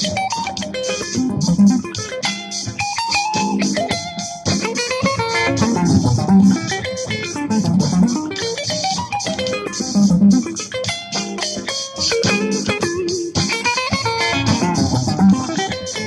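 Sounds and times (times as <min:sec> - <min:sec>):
funky bluesy guitar: 0:00.0 - 0:16.0.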